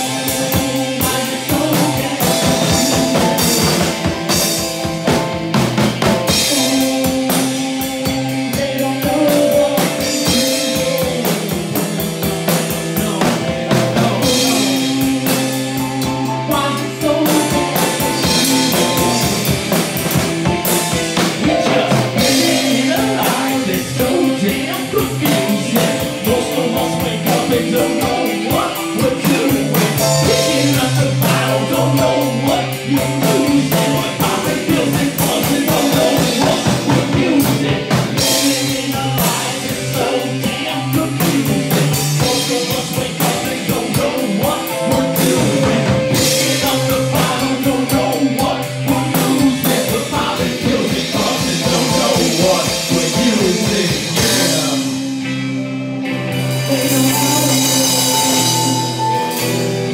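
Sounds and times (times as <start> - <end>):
drum kit groove: 0.0 - 59.9
held keyboard chords: 0.0 - 59.9.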